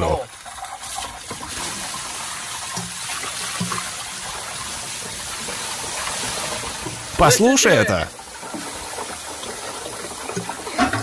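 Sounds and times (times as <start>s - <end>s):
water pouring from a jug: 0.0s - 11.0s
water sizzling on hot metal: 0.0s - 11.0s.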